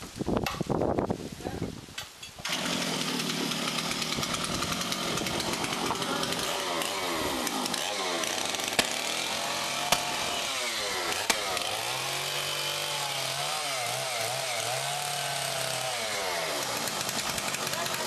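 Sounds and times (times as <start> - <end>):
small engine revving: 2.4 - 18.0.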